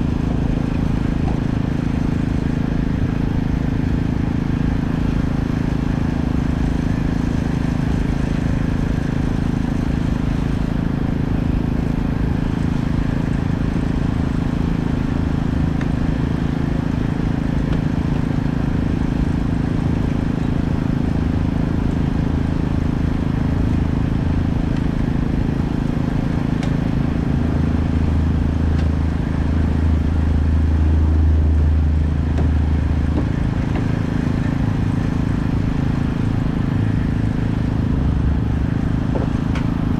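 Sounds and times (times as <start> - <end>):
deep loud drone: 0.0 - 39.9
engine humming: 0.0 - 39.9.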